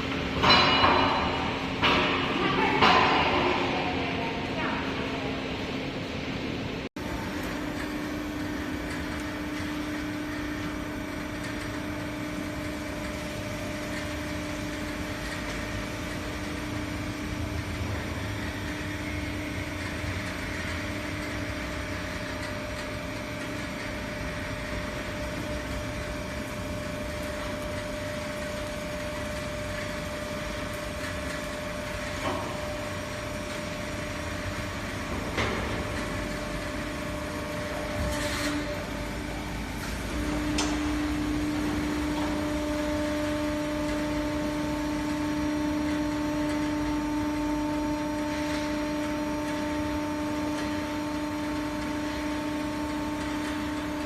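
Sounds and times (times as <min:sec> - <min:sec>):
pump motor humming: 0:07.0 - 0:54.0.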